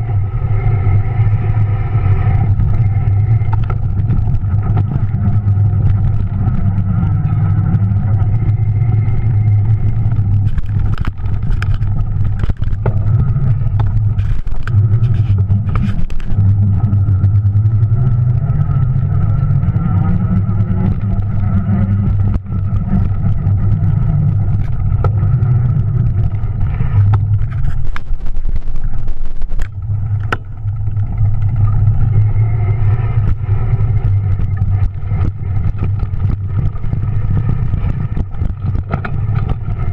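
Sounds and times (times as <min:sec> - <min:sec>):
electric bike motor humming: 0:00.0 - 0:39.9.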